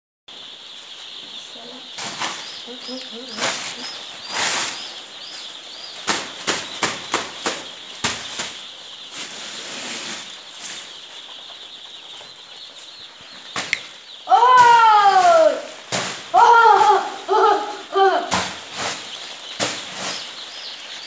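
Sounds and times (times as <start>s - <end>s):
chicks peeping: 0.3s - 21.0s.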